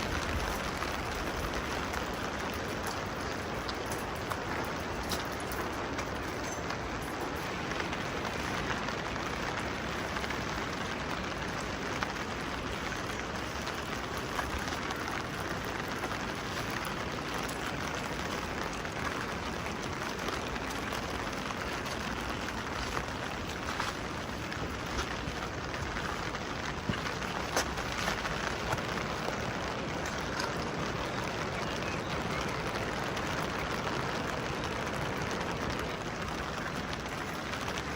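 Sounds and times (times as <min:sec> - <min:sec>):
sharp drips: 0:00.0 - 0:37.9
steady rain: 0:00.0 - 0:37.9.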